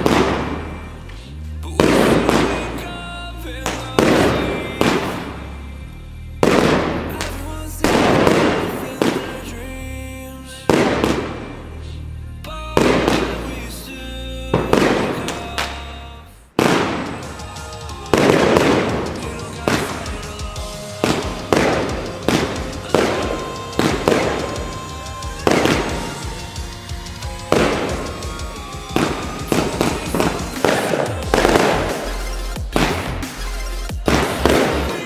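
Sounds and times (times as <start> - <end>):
firework bursts crackling: 0.0 - 11.9, 12.7 - 35.0.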